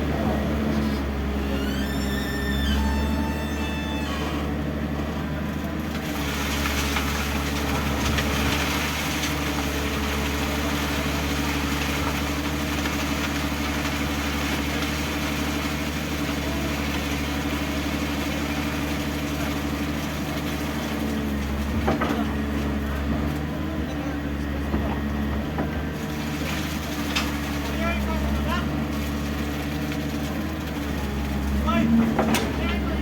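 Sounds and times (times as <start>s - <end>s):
backhoe engine running: 0.0s - 33.0s.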